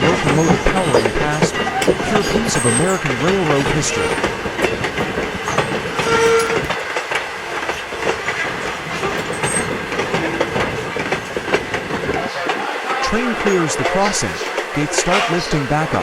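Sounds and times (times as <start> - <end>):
train wheels clicking over rails: 0.0 - 16.0.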